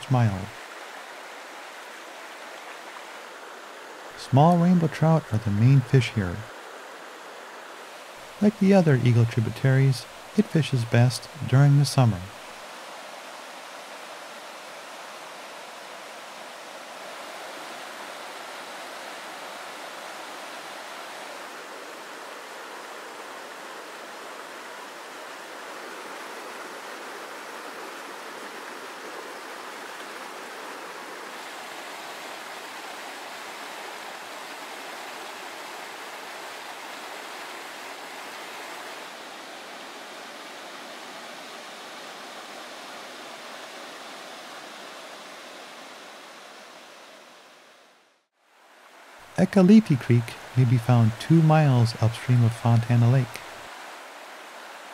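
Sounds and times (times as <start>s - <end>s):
creek rushing over rocks: 0.0s - 54.9s.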